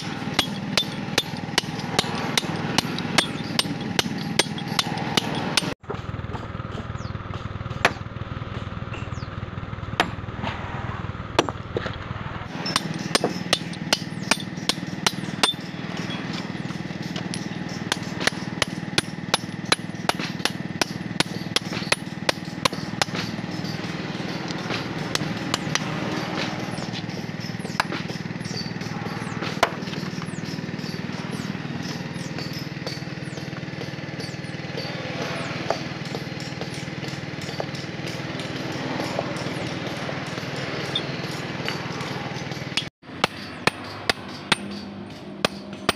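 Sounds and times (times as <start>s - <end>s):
hammer striking steel chisel: 0.0s - 8.0s, 12.5s - 45.9s.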